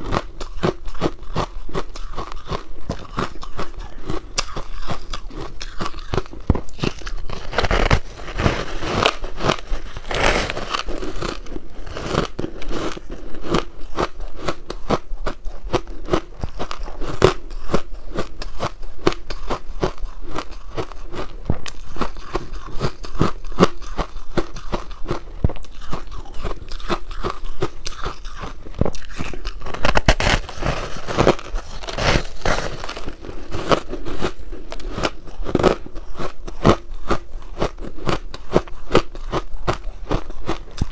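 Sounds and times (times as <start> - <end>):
crunching frozen ice cake: 0.0 - 40.9.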